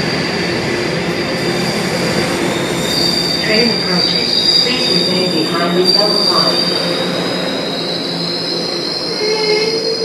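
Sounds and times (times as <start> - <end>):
high-pitched wheel squeal: 0.0 - 10.0
train wheels rumbling on rails: 0.0 - 10.0.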